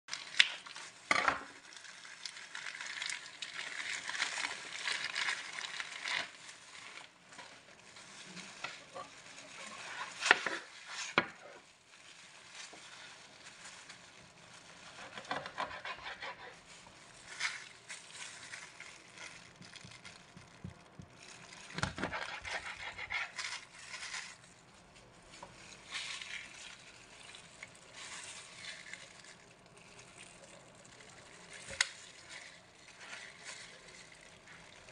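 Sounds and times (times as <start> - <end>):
plastic packaging crinkling: 0.1 - 34.9.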